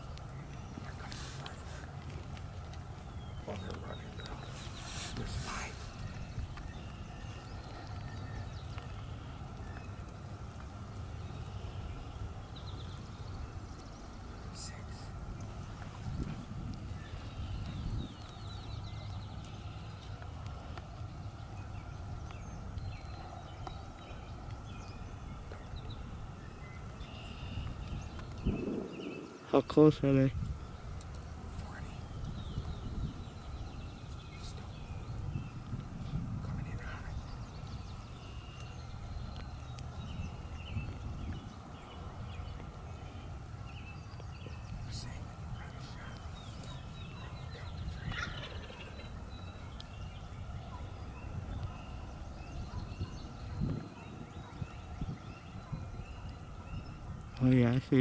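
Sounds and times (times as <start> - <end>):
steady low rumble: 0.0 - 57.7
birds chirping and trilling: 0.0 - 58.0.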